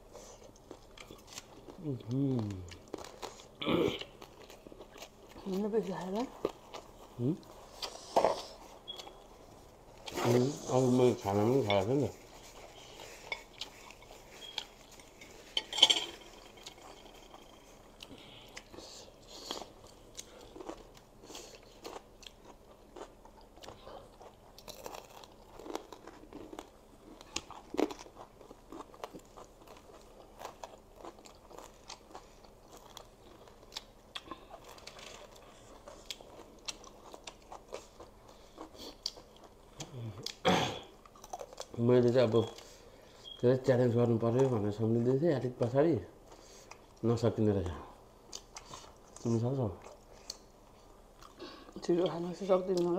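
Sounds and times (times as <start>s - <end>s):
people chewing and crunching food: 0.0s - 52.9s.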